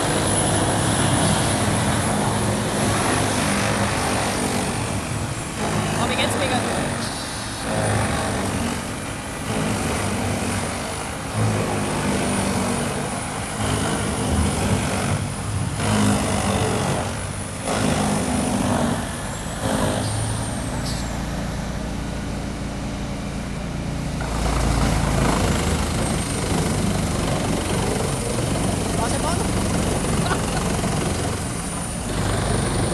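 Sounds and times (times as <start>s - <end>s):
wood chipper chipping wood: 0.0s - 21.2s, 24.1s - 32.9s.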